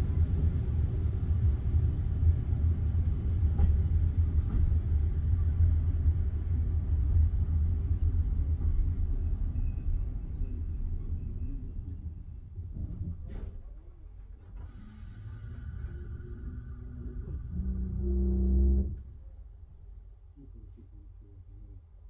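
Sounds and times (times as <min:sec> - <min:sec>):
train rumble inside carriage: 0:00.0 - 0:22.0.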